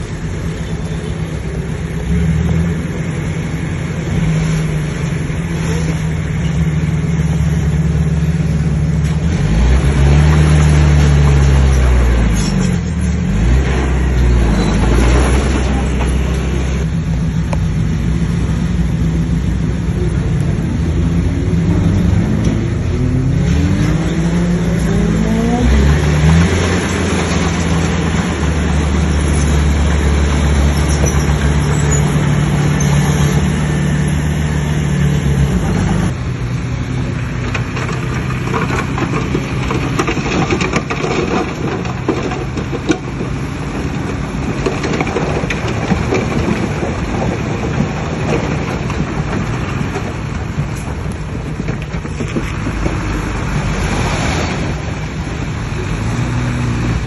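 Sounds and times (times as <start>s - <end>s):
bulldozer diesel engine revving: 0.0s - 57.0s.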